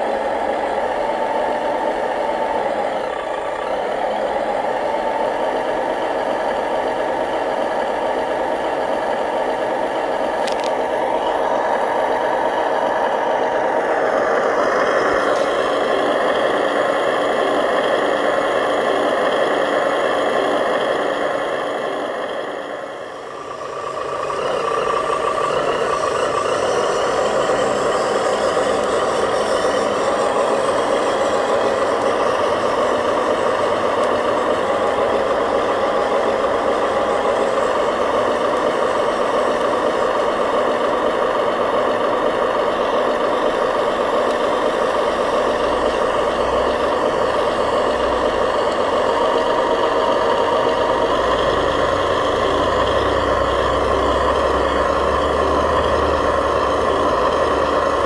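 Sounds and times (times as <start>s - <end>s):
toy truck engine sound: 0.0s - 58.0s.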